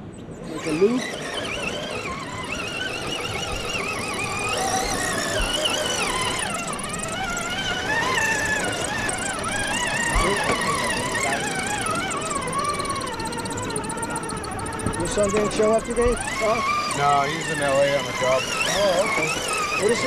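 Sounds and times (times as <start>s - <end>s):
electric motor and gearbox whining: 0.3s - 20.0s.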